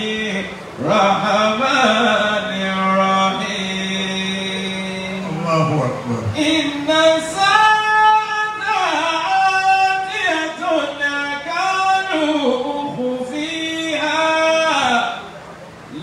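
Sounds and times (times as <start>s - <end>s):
man chanting into a microphone: 0.0s - 15.3s.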